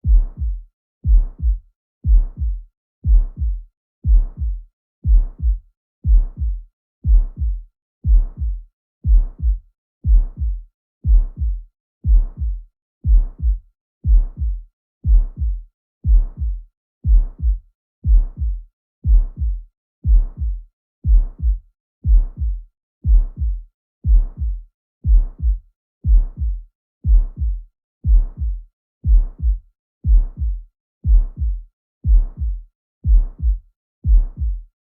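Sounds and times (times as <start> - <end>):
heartbeat with murmur: 0.0 - 34.7.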